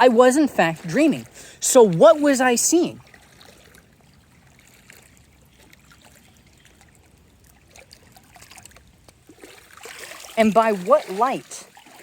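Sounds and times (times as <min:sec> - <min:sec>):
trickle of running water: 0:00.5 - 0:12.0.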